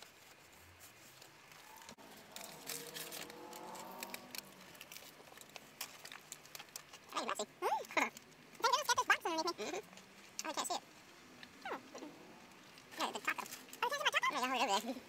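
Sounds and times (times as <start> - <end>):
food wrapper crinkling: 0.0 - 11.9, 12.5 - 15.0
chewing: 1.4 - 14.2.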